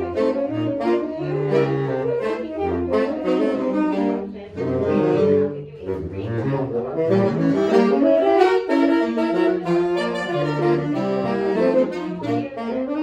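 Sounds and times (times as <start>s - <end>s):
saxophone quartet playing: 0.0s - 13.0s.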